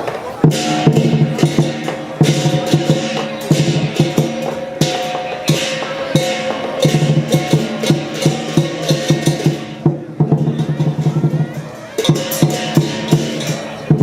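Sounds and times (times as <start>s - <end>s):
drum beaten in driving rhythm: 0.0s - 14.0s
cymbals and gong crashing: 0.4s - 14.0s.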